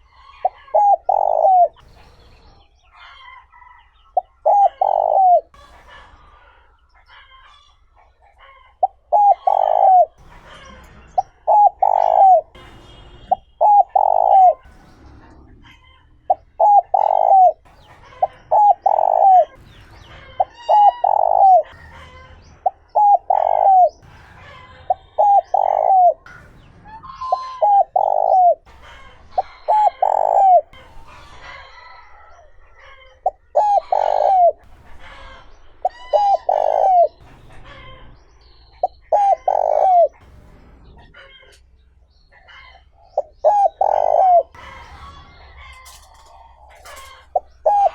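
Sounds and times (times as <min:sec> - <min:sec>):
dove cooing: 0:00.0 - 0:02.2, 0:04.1 - 0:07.6, 0:08.3 - 0:40.3, 0:42.4 - 0:47.9
small birds chirping: 0:00.0 - 0:47.9.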